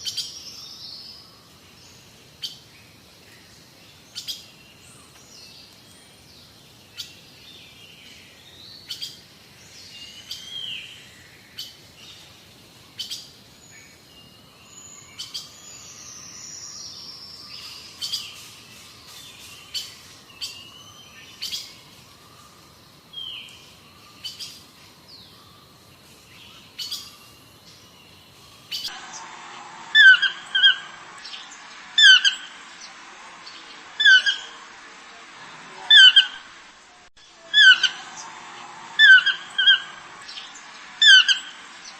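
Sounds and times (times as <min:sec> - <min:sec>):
wild birds chirping: 0:00.0 - 0:41.9.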